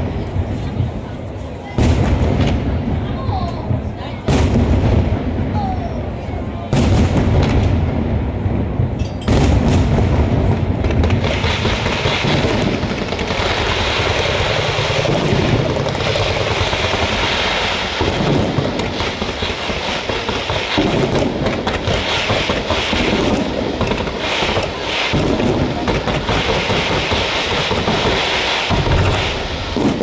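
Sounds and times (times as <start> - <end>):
fireworks bangs and crackles: 0.0 - 30.0
hiss of fireworks fountains: 0.0 - 30.0.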